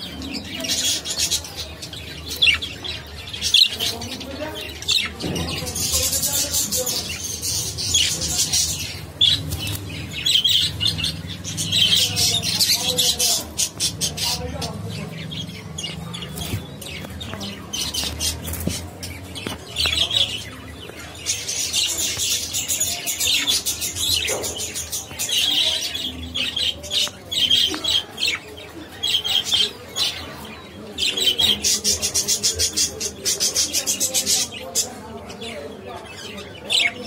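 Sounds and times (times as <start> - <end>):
budgerigars chirping and chattering: 0.0 - 37.0.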